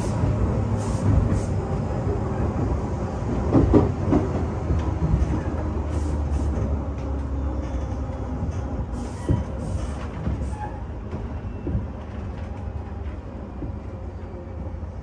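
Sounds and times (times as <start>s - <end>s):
train wheels rumbling on rails: 0.0s - 15.0s
track clacks: 2.3s - 14.7s.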